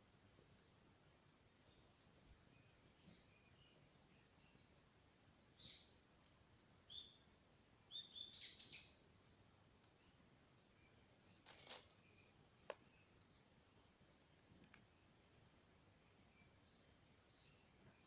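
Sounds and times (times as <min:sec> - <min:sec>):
bird chirping: 0:01.6 - 0:18.0.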